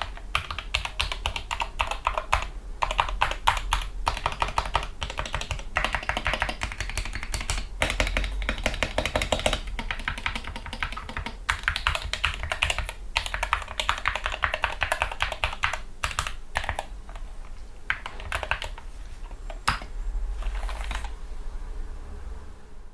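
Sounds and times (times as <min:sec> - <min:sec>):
typing on a keyboard: 0:00.0 - 0:17.3, 0:17.9 - 0:18.9, 0:19.5 - 0:21.1.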